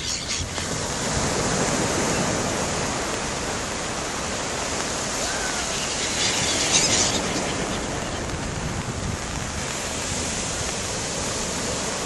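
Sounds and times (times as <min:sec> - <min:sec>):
sea waves breaking on beach: 0:00.0 - 0:12.0.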